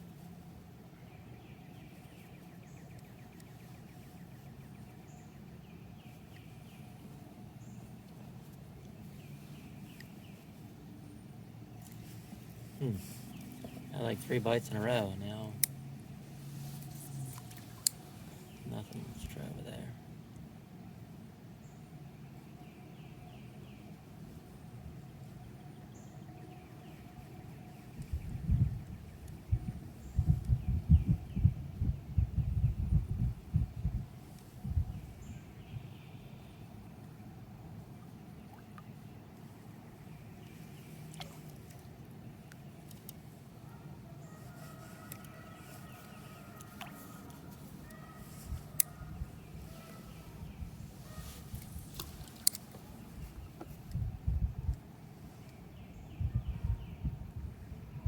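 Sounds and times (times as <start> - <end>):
songbirds singing: 0.0 - 20.5, 21.5 - 58.0
faint birdsong: 0.0 - 58.0
low background noise: 0.0 - 58.0.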